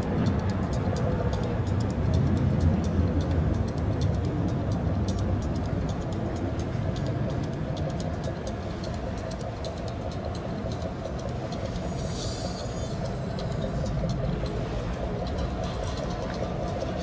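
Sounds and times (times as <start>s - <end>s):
boat engines rumbling: 0.0s - 17.0s.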